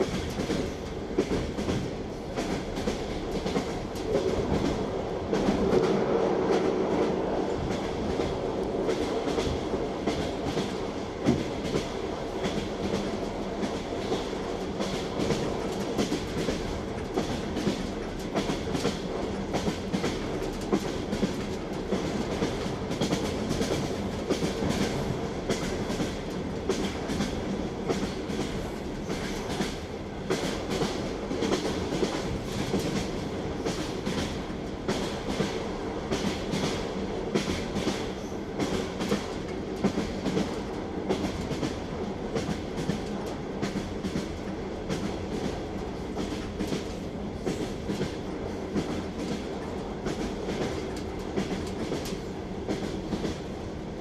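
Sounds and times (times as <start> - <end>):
railway car rumble: 0.0 - 54.0
train wheels clacking on rail joints: 0.0 - 54.0.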